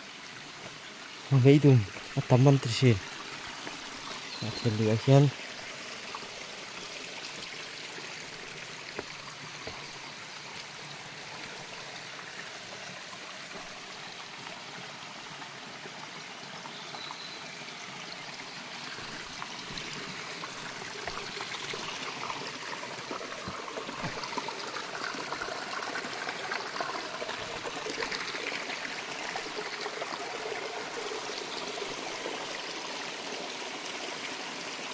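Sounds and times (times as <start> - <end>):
stream trickling over rocks: 0.0 - 34.9.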